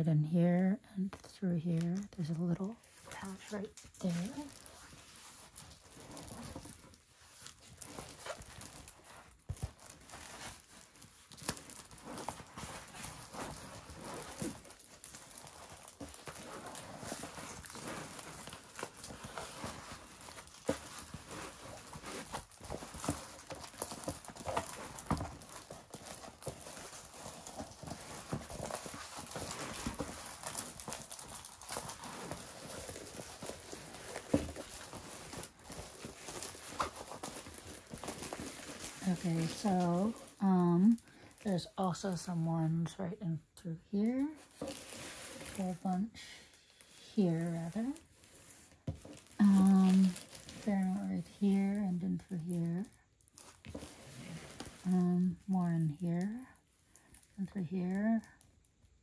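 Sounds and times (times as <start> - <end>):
plastic film and canvas clicks and rustles: 1.1 - 42.2, 44.0 - 59.0.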